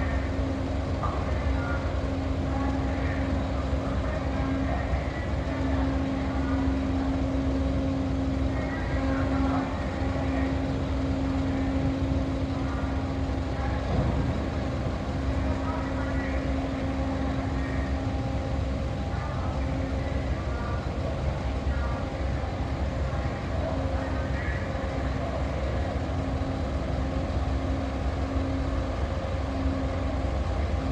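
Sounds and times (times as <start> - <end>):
faint voices: 0.0 - 30.9
ferry engines rumbling: 0.0 - 30.9.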